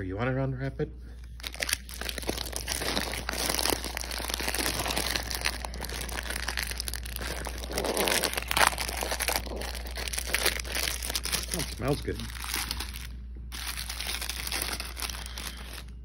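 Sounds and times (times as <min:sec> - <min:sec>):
plastic wrapper crinkling: 0:01.2 - 0:16.0.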